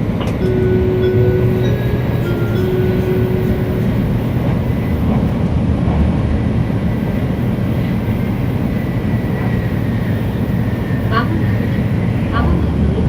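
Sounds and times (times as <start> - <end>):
train rumbling at speed: 0.0 - 13.0.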